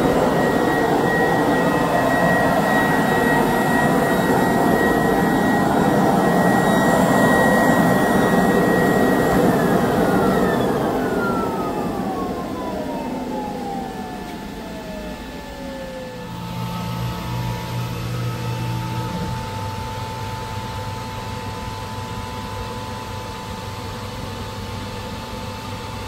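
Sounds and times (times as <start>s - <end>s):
pump spinning down: 0.0s - 22.7s
vacuum pump running: 0.0s - 26.0s.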